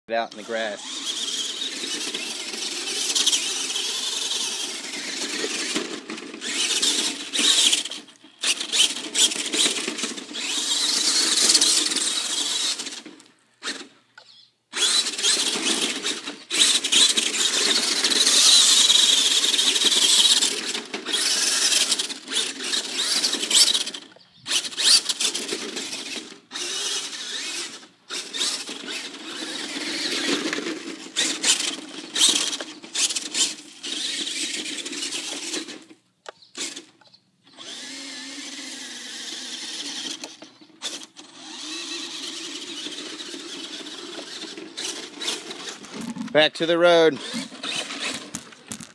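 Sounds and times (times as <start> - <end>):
toy truck motor whining: 0.2 - 48.9.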